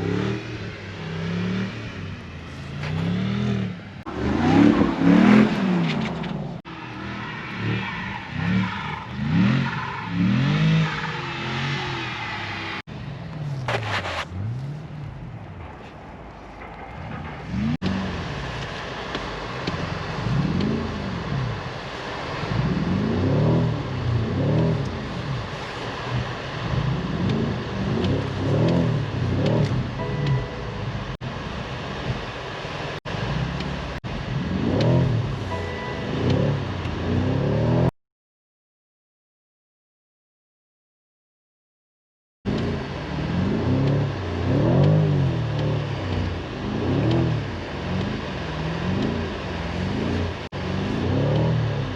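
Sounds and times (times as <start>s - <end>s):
car engine revving: 0.0s - 37.9s, 42.5s - 51.9s.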